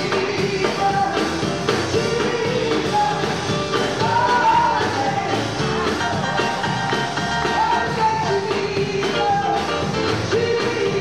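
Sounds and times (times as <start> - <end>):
instrumental accompaniment with beat: 0.0 - 11.0.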